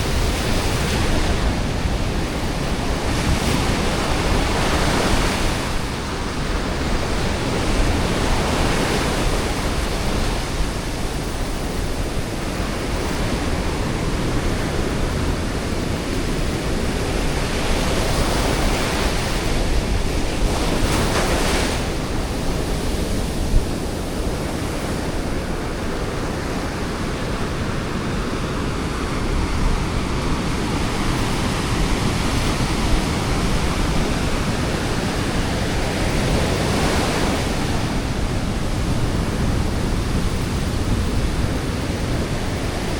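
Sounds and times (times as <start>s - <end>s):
waves breaking on shore: 0.0s - 42.9s.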